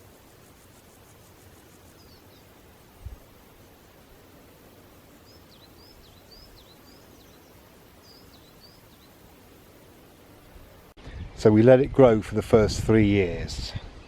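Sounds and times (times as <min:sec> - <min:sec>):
songbird chirping: 0:00.0 - 0:11.8
faint outdoor background noise: 0:00.0 - 0:14.0.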